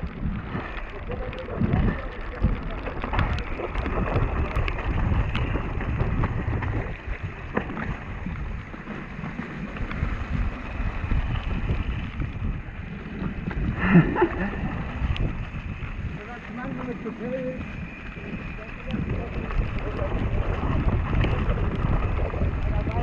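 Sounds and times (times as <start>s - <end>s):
bike rattling: 0.0s - 23.0s
wind rush over microphone: 0.0s - 23.0s.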